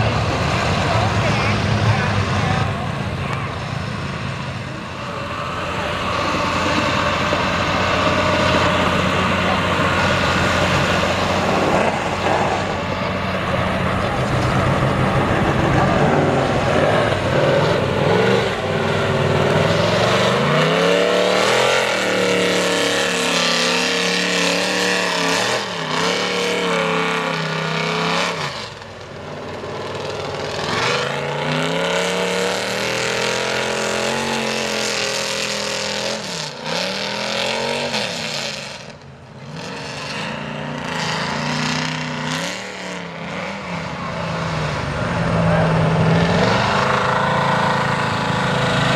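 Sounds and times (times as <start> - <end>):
truck engine revving: 0.0 - 48.9.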